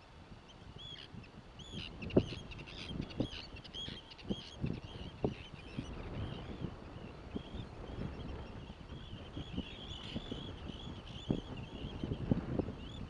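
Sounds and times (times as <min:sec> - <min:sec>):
flock of birds calling: 0:00.8 - 0:12.2.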